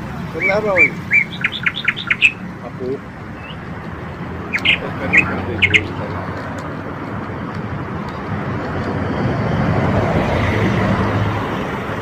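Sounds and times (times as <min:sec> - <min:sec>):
motor vehicle road noise: 0:00.0 - 0:12.0.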